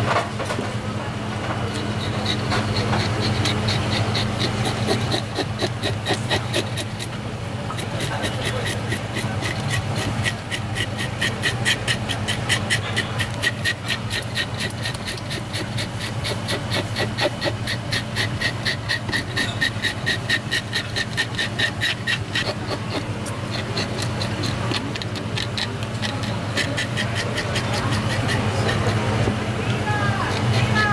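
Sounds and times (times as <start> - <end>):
fish scaler scraping scales: 1.6 - 30.9.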